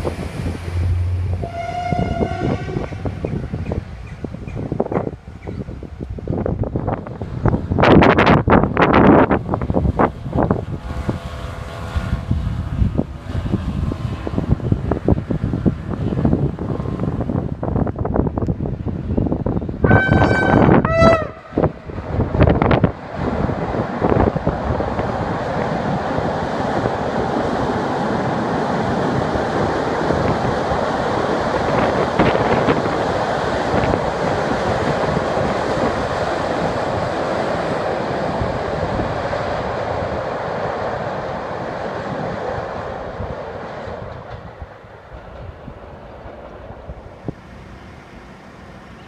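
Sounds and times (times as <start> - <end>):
train crossing steel bridge: 0.0 - 49.0.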